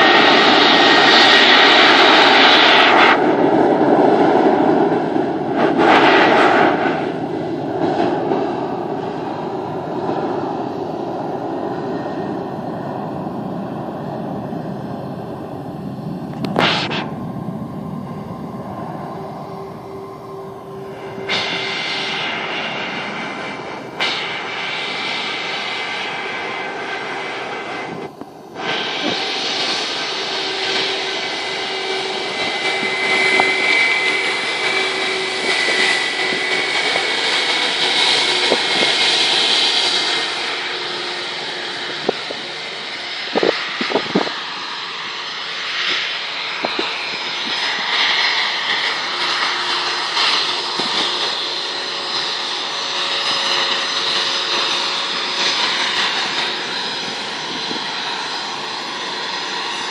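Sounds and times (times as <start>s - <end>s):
airplane engines at takeoff: 0.0s - 59.9s.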